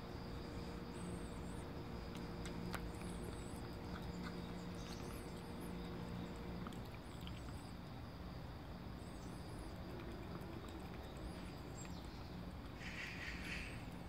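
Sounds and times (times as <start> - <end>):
cat chewing and lapping food: 0.0 - 14.0
low hum: 0.0 - 14.0.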